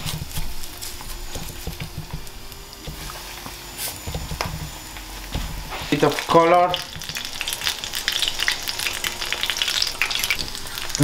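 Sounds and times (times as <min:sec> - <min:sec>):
croquettes frying in oil: 0:00.0 - 0:11.0.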